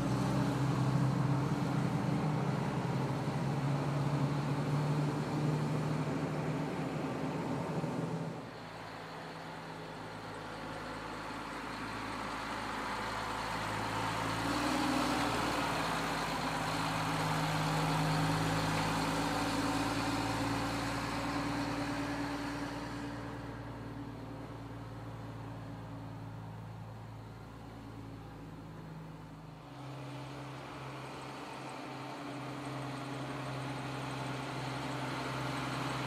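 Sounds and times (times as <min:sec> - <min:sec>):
truck diesel engine driving past: 0:00.0 - 0:36.0.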